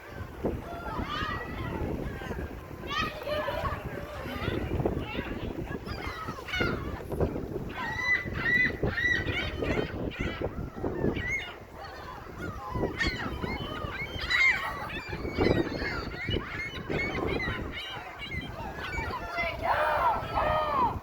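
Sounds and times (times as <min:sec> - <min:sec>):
seagulls calling: 0:00.0 - 0:21.0.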